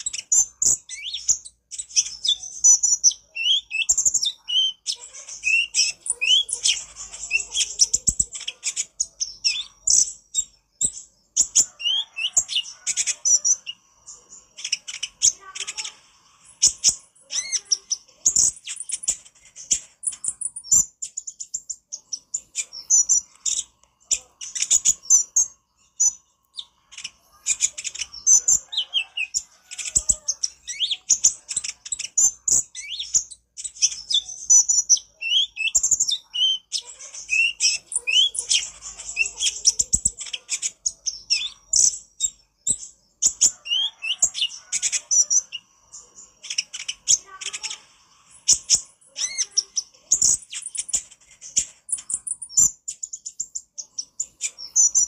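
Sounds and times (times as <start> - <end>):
sunbird singing chattering song: 0.0 - 19.1, 20.0 - 51.0.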